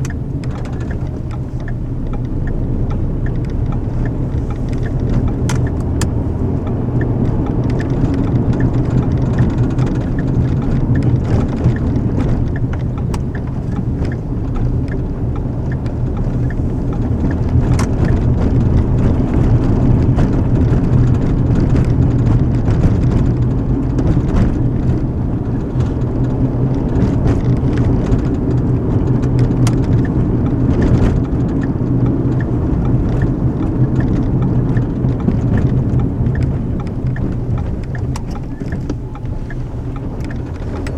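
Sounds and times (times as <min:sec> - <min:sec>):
faint ticks: 0:00.0 - 0:18.6, 0:23.0 - 0:40.9
car road and engine rumble: 0:00.0 - 0:40.9.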